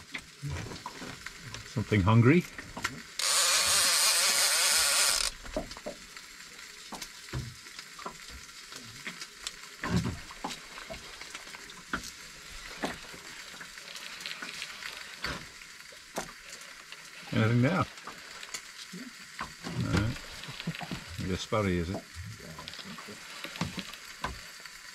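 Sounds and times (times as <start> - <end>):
crackling water: 0.0 - 24.9.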